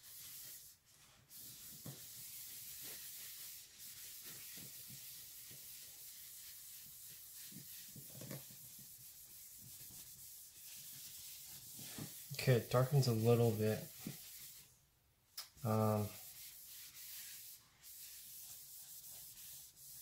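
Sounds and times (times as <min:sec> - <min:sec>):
paper towel rubbing on wood: 0:00.0 - 0:14.7, 0:15.7 - 0:20.0.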